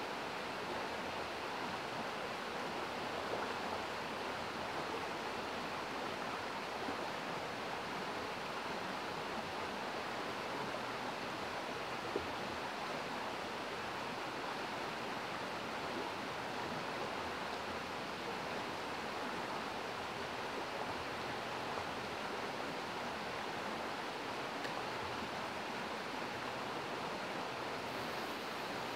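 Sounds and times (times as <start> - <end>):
stream rushing over rocks: 0.0 - 28.9.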